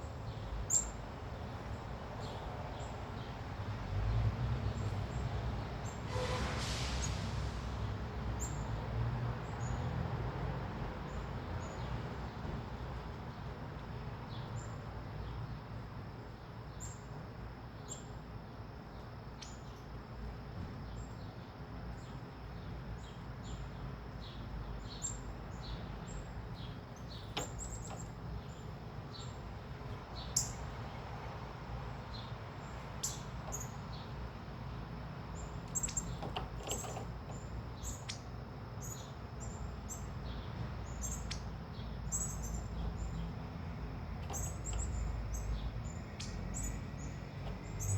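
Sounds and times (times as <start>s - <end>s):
small birds chirping: 0.0s - 6.0s, 7.8s - 10.0s, 10.9s - 47.9s.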